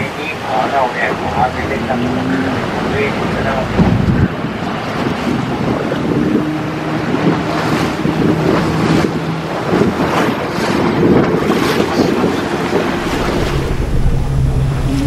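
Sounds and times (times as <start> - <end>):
boat engine running: 0.0 - 15.0
hull splashing through waves: 0.0 - 15.0
wind buffeting microphone: 0.0 - 15.0.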